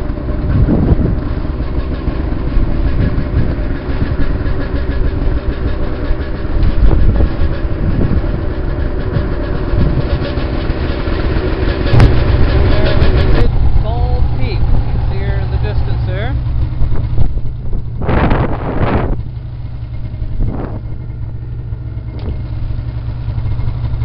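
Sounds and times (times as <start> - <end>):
rattling clatter from sled: 0.0 - 24.0
snowmobile engine running: 0.0 - 24.0.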